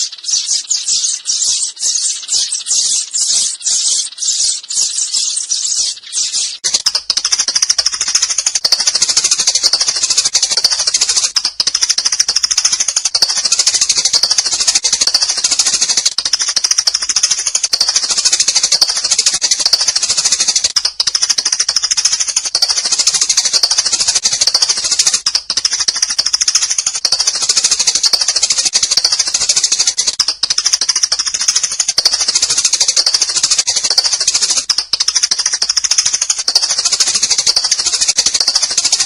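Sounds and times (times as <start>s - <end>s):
sparrows chirping: 0.0s - 39.0s.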